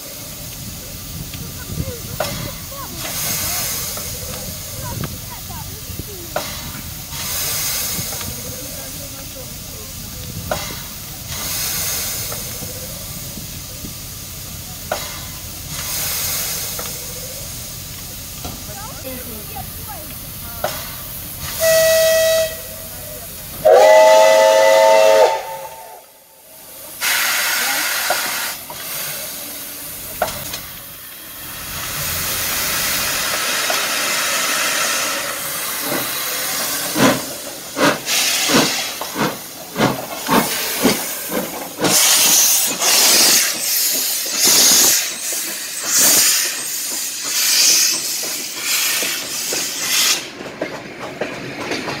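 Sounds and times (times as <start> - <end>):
steam locomotive venting steam: 0.0 - 52.0.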